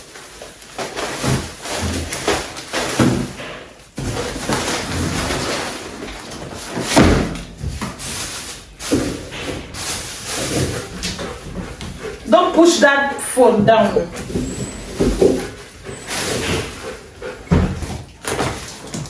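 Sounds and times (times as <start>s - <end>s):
plastic shopping bags rustling: 0.0s - 11.6s, 12.2s - 16.9s.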